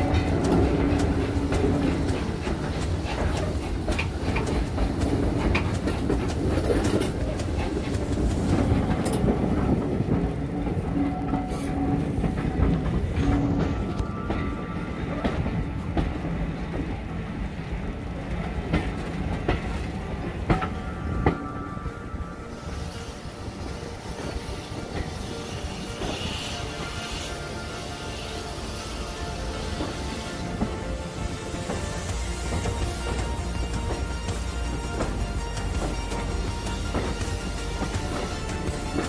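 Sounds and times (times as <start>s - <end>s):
clickety-clack over rail joints: 0.0s - 21.5s, 23.9s - 27.3s, 29.1s - 39.0s
train wheels rumbling: 0.0s - 39.0s.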